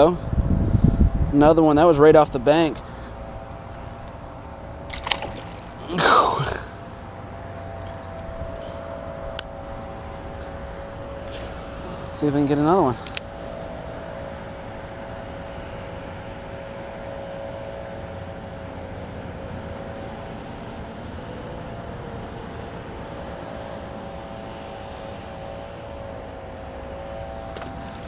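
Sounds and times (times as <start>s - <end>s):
distant engine droning: 0.0s - 28.0s.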